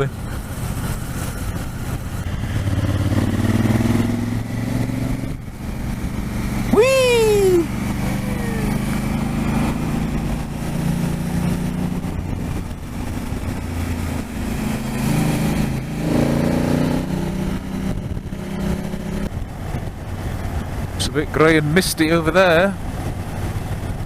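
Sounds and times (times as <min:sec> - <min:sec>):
motorcycle engine running: 0:00.0 - 0:21.9
wind and road rush: 0:00.0 - 0:24.0.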